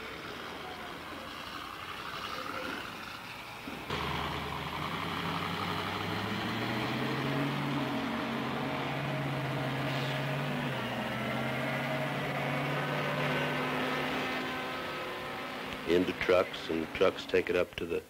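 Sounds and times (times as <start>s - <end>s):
truck engine running: 0.0s - 17.6s.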